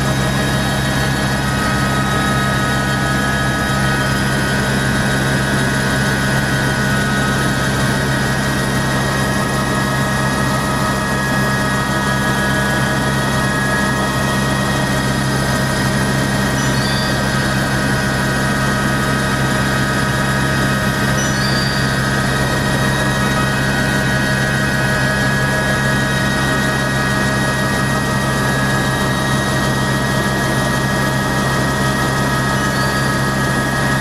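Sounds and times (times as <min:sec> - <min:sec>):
helicopter drone in flight: 0:00.0 - 0:34.0.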